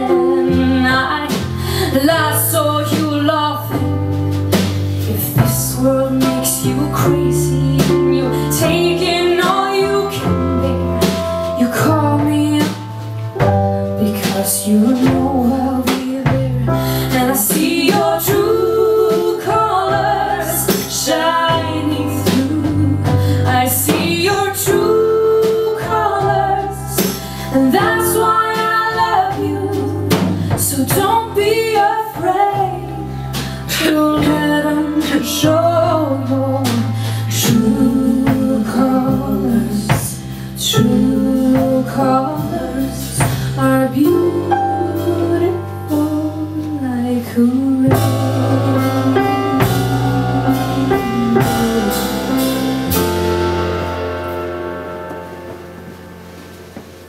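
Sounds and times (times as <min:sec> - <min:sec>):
woman singing: 0:00.0 - 0:04.2, 0:05.0 - 0:53.2
live band playing: 0:00.0 - 0:57.0.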